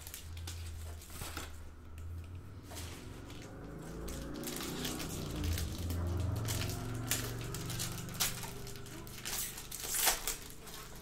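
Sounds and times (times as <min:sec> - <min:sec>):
foil card pack crinkling: 0:00.0 - 0:11.0.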